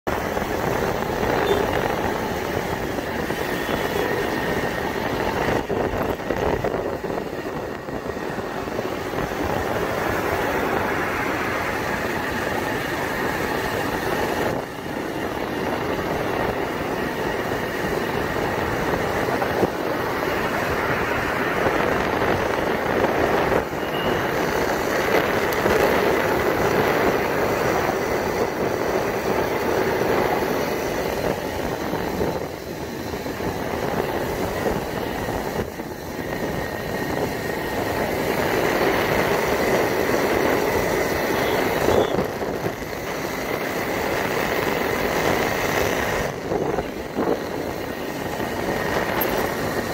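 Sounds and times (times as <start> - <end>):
motorcycle road noise: 0.0 - 49.9.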